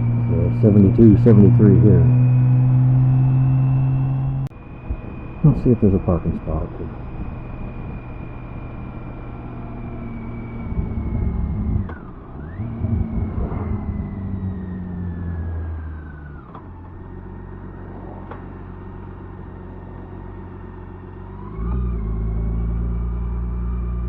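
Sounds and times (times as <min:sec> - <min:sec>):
loud low rumble: 0:00.0 - 0:20.3
motorcycle engine slowing down: 0:00.0 - 0:24.0.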